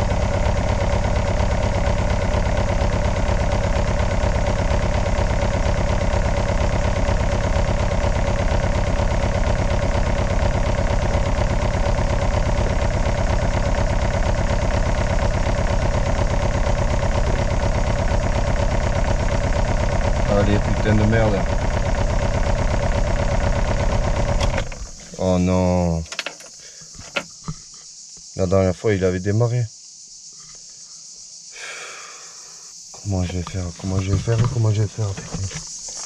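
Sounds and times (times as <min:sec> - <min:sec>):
starter motor cranking diesel engine: 0:00.0 - 0:27.5, 0:33.0 - 0:36.0.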